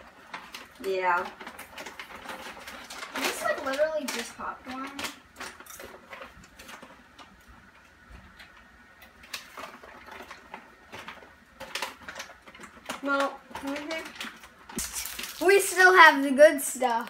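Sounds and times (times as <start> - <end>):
food packaging rustling: 0.0 - 17.0.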